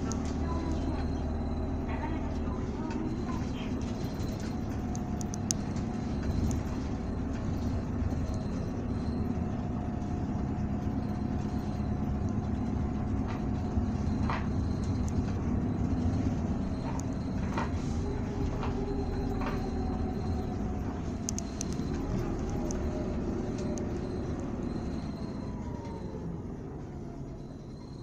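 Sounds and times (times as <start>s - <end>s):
diesel engine drone: 0.0s - 28.0s
road noise: 0.0s - 28.0s.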